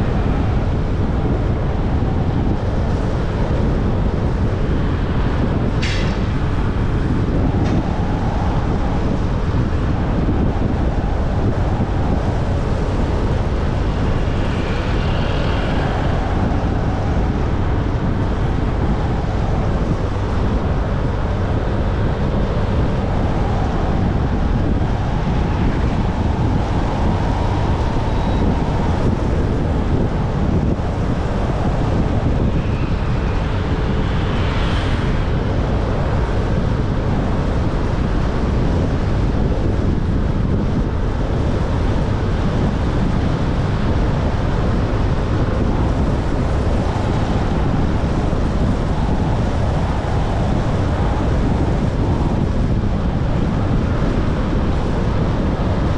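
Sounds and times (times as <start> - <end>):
road noise: 0.0 - 55.9
wind buffeting microphone: 0.0 - 55.9.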